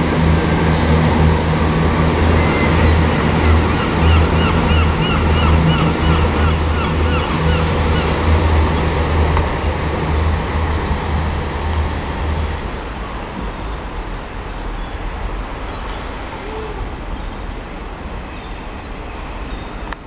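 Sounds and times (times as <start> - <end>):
diesel train engine droning: 0.0 - 19.6.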